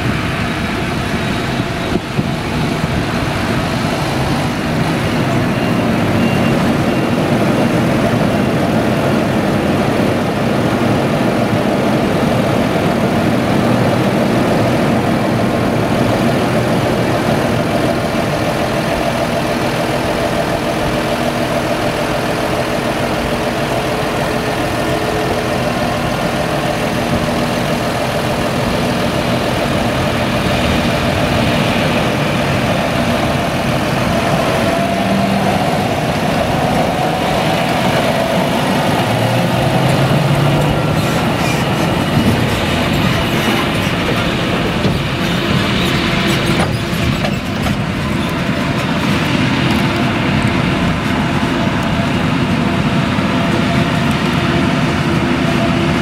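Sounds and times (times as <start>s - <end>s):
forage harvester engine drone: 0.0s - 56.0s
machine whine: 0.0s - 56.0s
tractor engine approaching: 0.0s - 56.0s.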